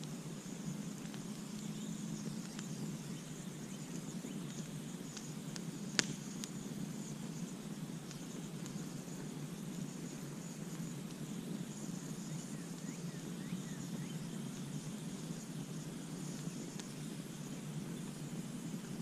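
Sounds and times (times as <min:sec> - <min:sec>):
fire crackles and pop: 0:00.0 - 0:19.0
low rumble of campfire flames: 0:00.0 - 0:19.0.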